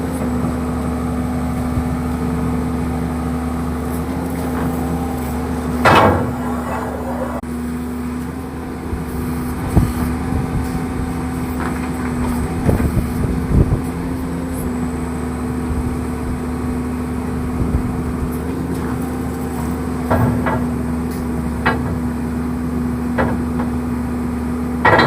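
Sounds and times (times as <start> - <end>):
drilling rig engine humming: 0.0 - 25.0.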